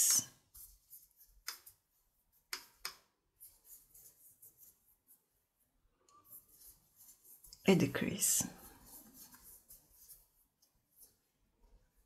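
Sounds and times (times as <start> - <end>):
faint scratchy yarn rustles: 0.0 - 2.5, 3.2 - 12.0.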